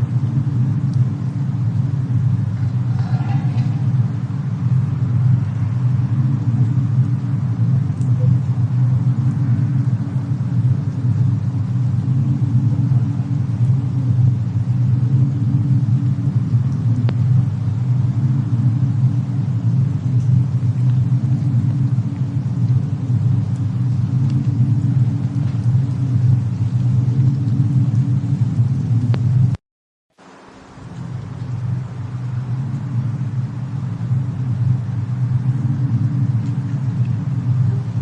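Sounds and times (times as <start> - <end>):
steady low rumble: 0.0 - 29.6, 30.2 - 38.0
fire crackles: 0.0 - 38.0.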